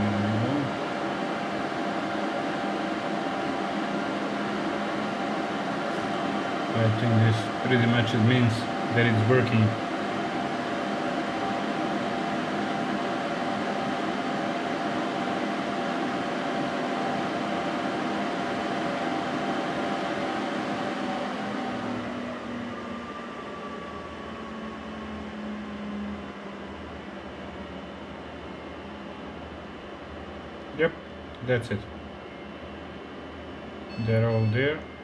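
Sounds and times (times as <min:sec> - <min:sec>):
server cooling fans whining: 0:00.0 - 0:35.0.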